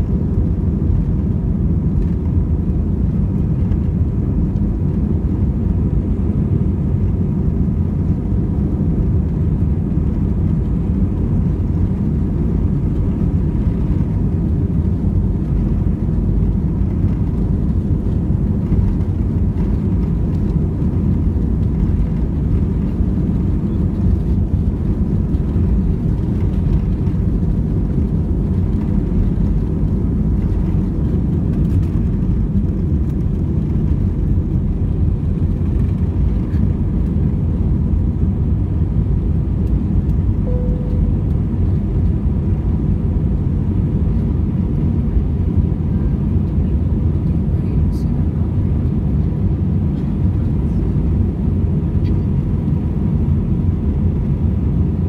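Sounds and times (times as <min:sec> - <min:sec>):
jet engines at takeoff thrust: 0:00.0 - 0:55.0
runway rumble: 0:00.0 - 0:55.0.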